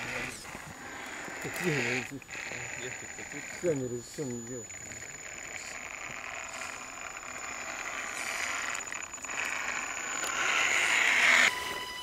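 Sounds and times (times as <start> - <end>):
toy car motor whining: 0.0 - 12.0.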